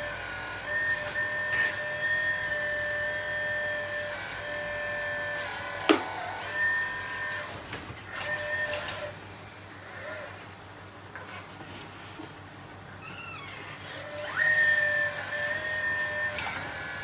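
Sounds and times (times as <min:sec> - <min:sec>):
toy excavator motor whining: 0:00.0 - 0:10.6, 0:13.0 - 0:17.0.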